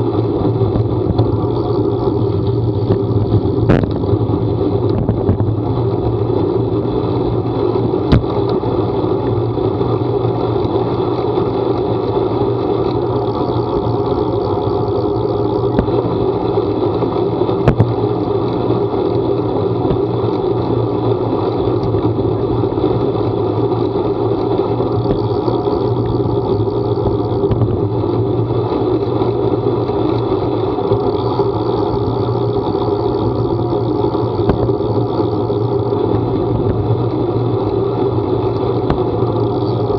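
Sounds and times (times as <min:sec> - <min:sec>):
vehicle running noise: 0:00.0 - 0:39.9.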